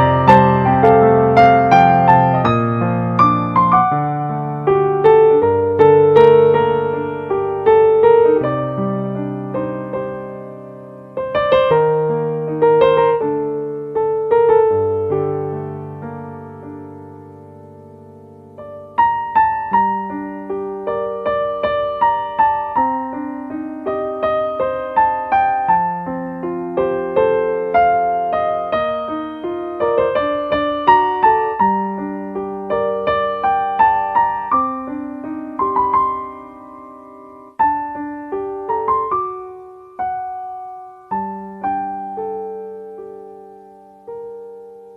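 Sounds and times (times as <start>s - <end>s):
slow gentle piano melody: 0.0s - 44.9s.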